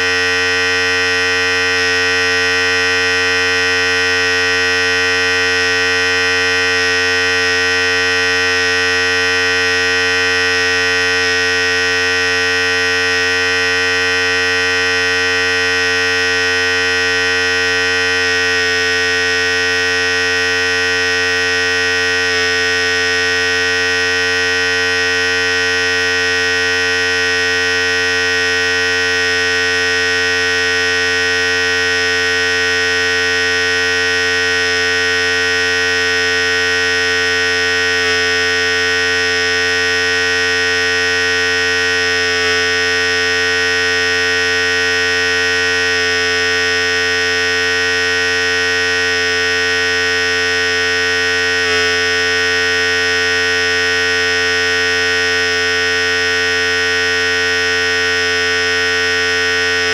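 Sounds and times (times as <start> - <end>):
electric hair clipper buzzing: 0.0 - 59.9.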